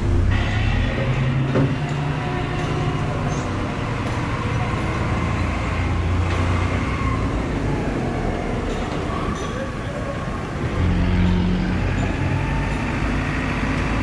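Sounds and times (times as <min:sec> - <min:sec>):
city street traffic: 0:00.0 - 0:14.0
heavy vehicle engine humming: 0:00.0 - 0:14.0.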